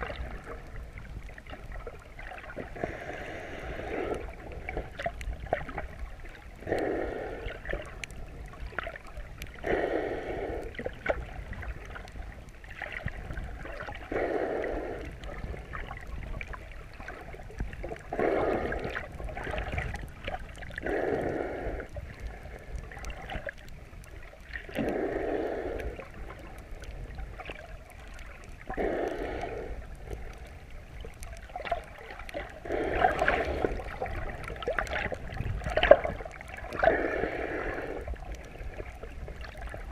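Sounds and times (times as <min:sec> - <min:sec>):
underwater wash: 0:00.0 - 0:39.9.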